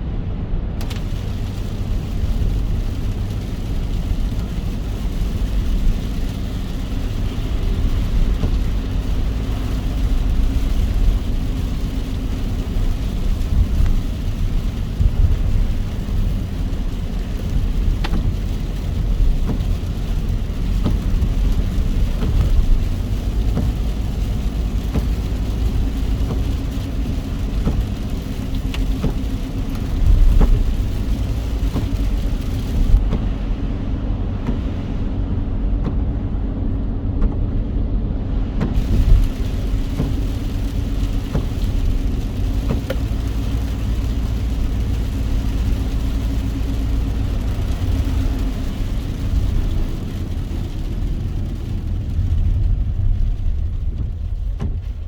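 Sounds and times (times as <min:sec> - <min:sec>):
car road and engine rumble: 0:00.0 - 0:55.0
rain and spray hiss: 0:00.2 - 0:55.0.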